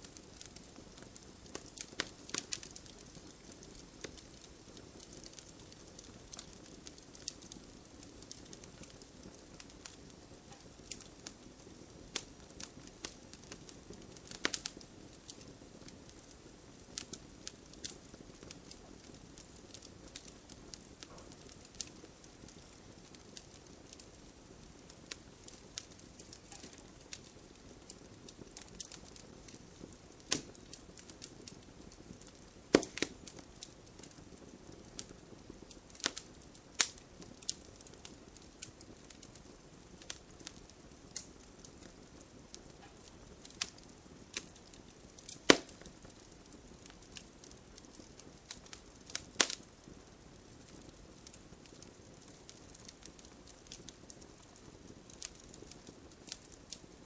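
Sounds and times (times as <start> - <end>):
bonfire crackling and popping: 0.0 - 57.0
rain pattering: 0.0 - 57.0.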